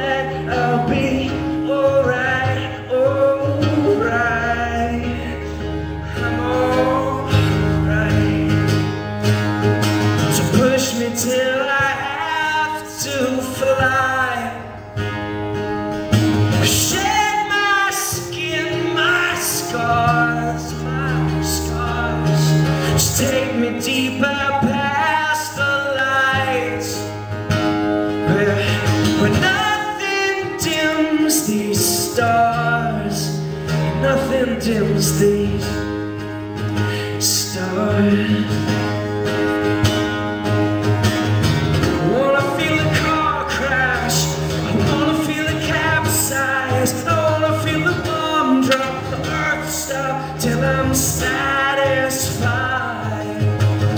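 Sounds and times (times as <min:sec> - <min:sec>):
man singing: 0:00.0 - 0:15.2, 0:16.4 - 0:27.4, 0:28.1 - 0:39.6, 0:41.8 - 0:53.9
strummed acoustic guitar: 0:00.0 - 0:53.9.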